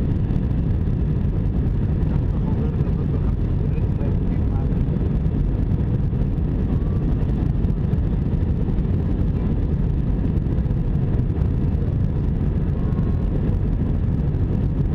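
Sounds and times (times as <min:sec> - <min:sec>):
airplane cabin rumble: 0:00.0 - 0:14.9.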